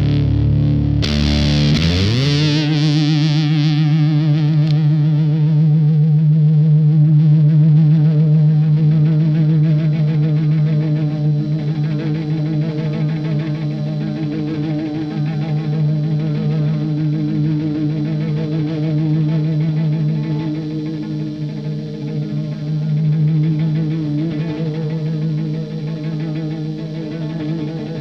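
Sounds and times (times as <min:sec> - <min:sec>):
fuzz electric guitar note: 0:00.0 - 0:28.0.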